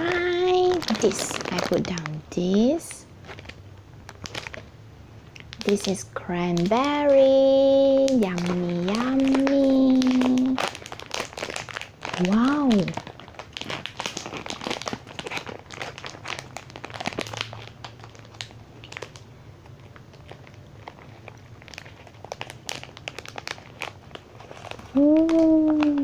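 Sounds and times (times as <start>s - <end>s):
wrapper crinkling: 0.0s - 26.0s.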